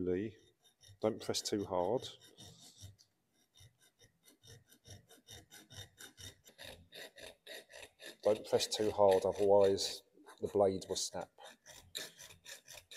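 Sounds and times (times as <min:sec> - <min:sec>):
hacksaw cutting pipe: 0:00.0 - 0:12.9.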